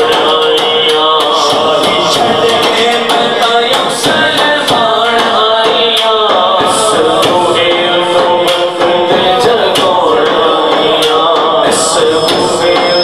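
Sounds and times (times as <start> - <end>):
hand percussion beat: 0.0 - 13.0
men singing into microphones: 0.0 - 13.0.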